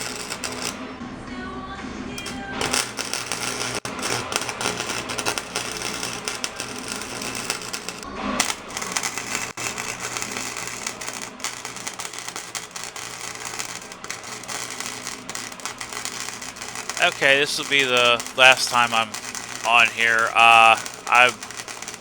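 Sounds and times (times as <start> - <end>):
welder arc crackling: 0.0 - 0.8, 2.2 - 22.0.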